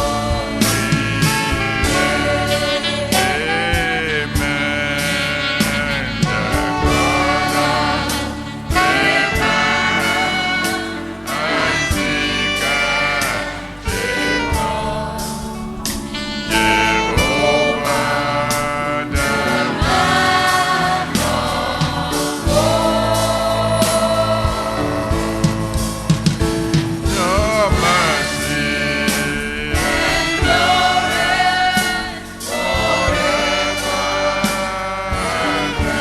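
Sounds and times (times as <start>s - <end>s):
backing band: 0.0s - 36.0s
choir singing: 0.0s - 36.0s
drum beat: 0.0s - 36.0s.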